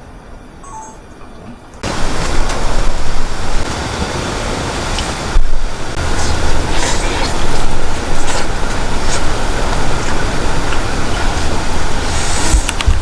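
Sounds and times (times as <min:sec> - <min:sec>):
strong wind: 0:00.0 - 0:13.0
heavy rain: 0:01.8 - 0:13.0.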